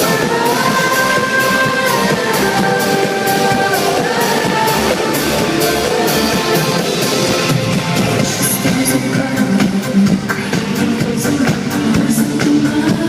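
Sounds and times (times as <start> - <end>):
live pop-rock band: 0.0 - 13.0
steady drum beat: 0.0 - 13.0.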